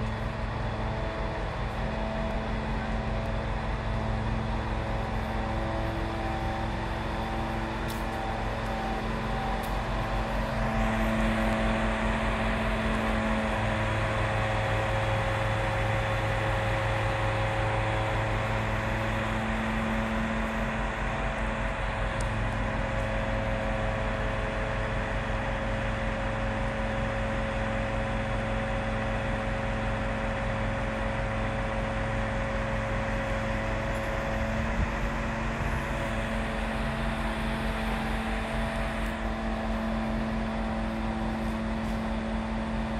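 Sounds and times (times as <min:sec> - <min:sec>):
hydraulic boom mechanical drone: 0:00.0 - 0:42.9.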